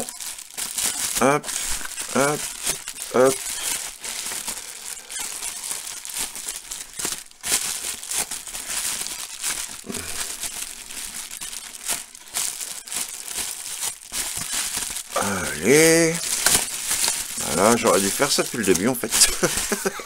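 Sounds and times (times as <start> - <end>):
bubble wrap crinkling: 0.0 - 20.0.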